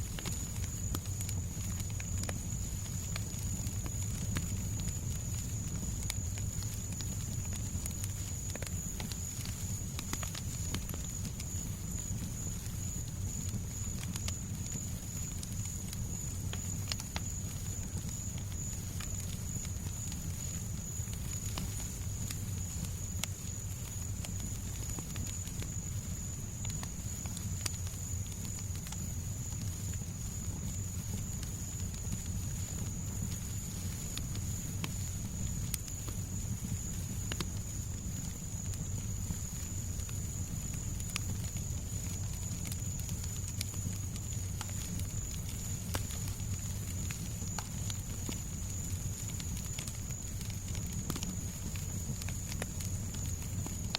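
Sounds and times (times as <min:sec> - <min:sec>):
fireplace fire crackling: 0:00.0 - 0:53.9.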